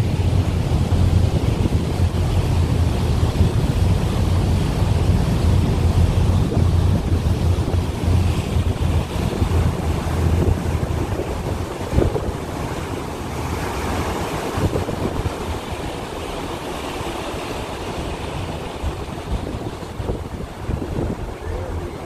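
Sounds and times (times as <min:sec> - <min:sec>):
low rumble of boat: 0:00.0 - 0:22.0
rushing water of boat wake: 0:00.0 - 0:22.0
wind buffeting microphone: 0:00.0 - 0:22.0.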